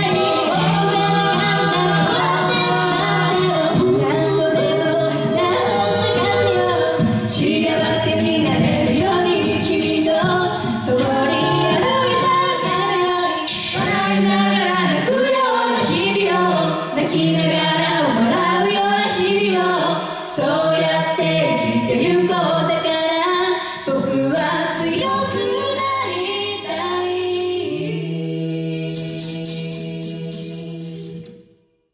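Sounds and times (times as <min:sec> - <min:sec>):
female lead voice singing: 0:00.0 - 0:27.9
a cappella group singing: 0:00.0 - 0:31.6.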